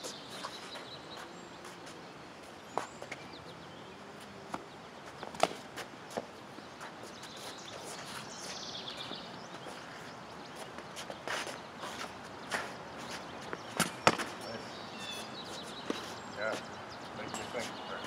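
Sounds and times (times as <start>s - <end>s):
bird chirping: 0.0s - 5.6s, 6.2s - 18.0s.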